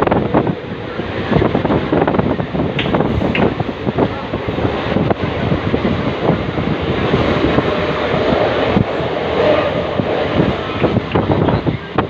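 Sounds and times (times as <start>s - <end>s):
faint train whine: 0.0s - 12.0s
train rumble and rattle: 0.0s - 12.0s.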